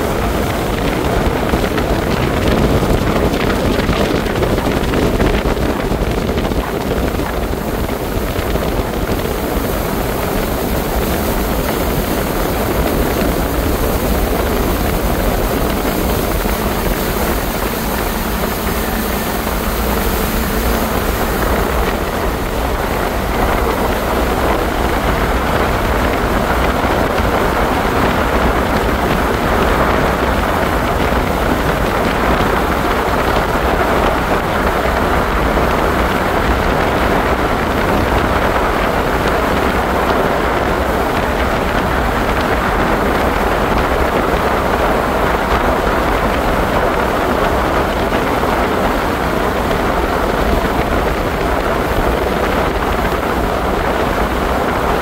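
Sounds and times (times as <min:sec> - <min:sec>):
motorboat engine: 0:00.0 - 0:55.0
water against hull: 0:00.0 - 0:55.0
wind on microphone: 0:00.0 - 0:55.0.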